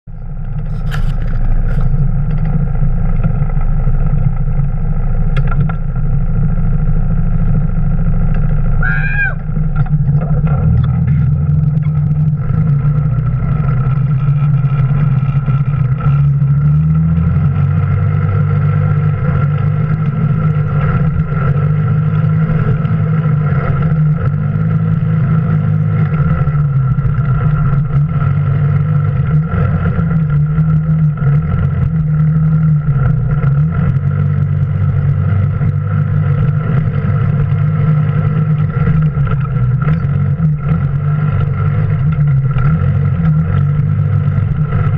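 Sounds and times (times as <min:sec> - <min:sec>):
off-road vehicle engine droning: 0:00.1 - 0:44.9
steady whine: 0:00.1 - 0:44.9.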